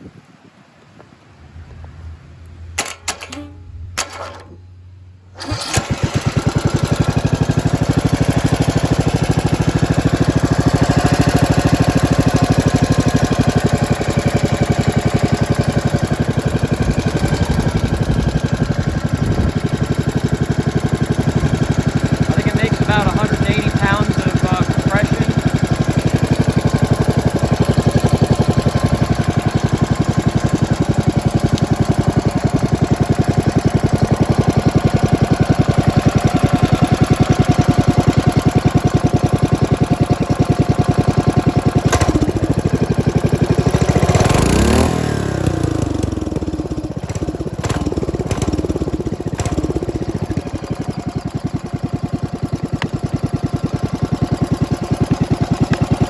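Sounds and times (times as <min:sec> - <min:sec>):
small engine running and revving: 0:05.4 - 0:56.0.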